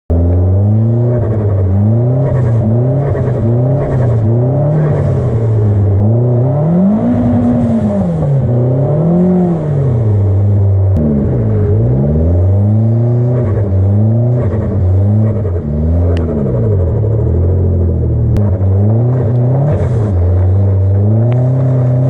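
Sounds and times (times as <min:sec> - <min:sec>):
car engine revving: 0:00.1 - 0:22.0.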